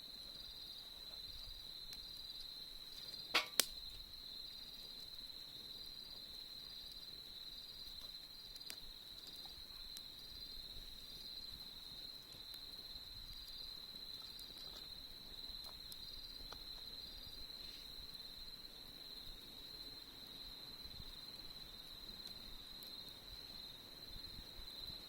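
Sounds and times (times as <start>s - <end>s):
campfire crackle: 0.0s - 25.0s
crickets trilling: 0.0s - 25.0s.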